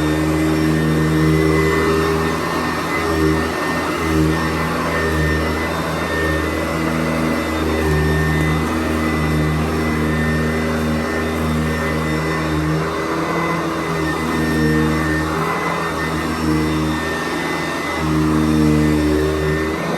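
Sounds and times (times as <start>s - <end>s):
upright vacuum running: 0.0s - 19.9s.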